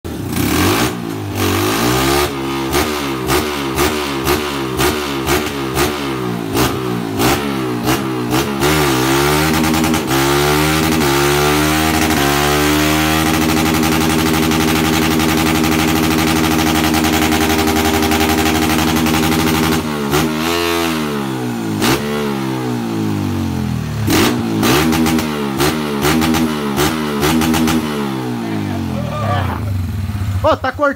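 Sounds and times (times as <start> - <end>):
motorcycle engine revving: 0.1 - 30.9.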